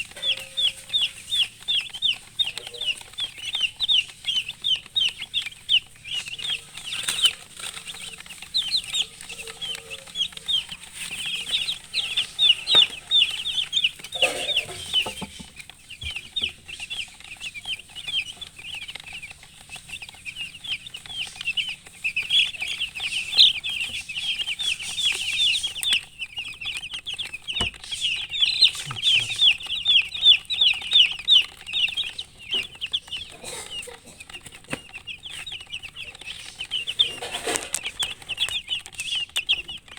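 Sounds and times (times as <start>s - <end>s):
chicks chirping: 0.0s - 39.9s.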